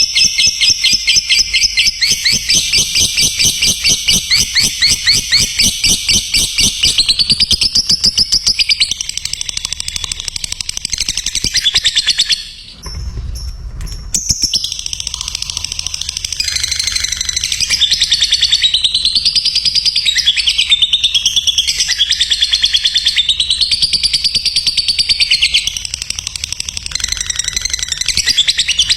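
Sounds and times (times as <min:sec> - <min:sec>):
lovebird chirping chatter: 0:00.0 - 0:12.8, 0:14.2 - 0:28.9.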